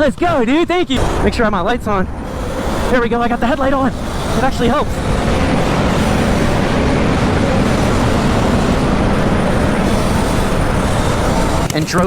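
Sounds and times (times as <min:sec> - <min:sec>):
vehicle driving rumble: 0:00.0 - 0:12.0.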